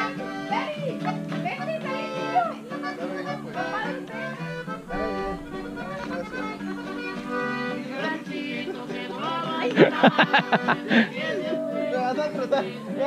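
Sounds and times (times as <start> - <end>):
accordion-like melody over chords: 0.0 - 13.0.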